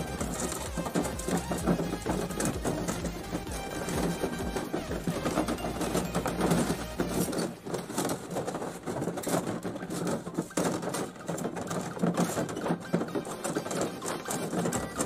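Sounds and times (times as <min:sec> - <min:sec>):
copper tubing rattling and clinking: 0:00.0 - 0:15.0.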